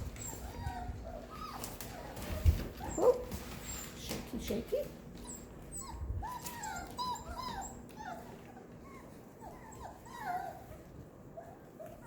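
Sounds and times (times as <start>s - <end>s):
puppies whimpering and yipping: 0.0s - 4.1s, 5.1s - 12.0s.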